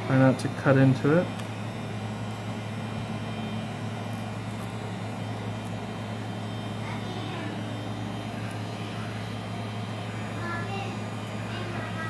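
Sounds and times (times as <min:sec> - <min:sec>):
electric motor and fan hum: 0:00.0 - 0:12.0.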